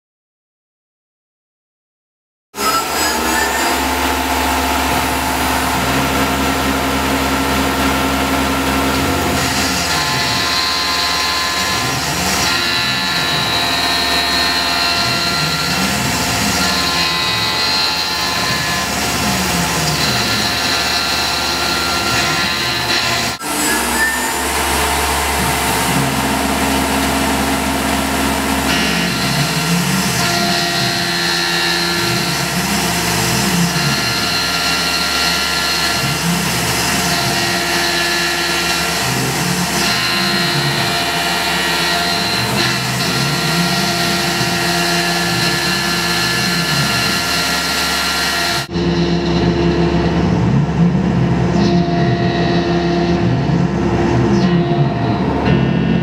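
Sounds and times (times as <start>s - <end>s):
axis motors whining: 2.6s - 55.6s
milling machine cutting metal: 2.6s - 56.0s.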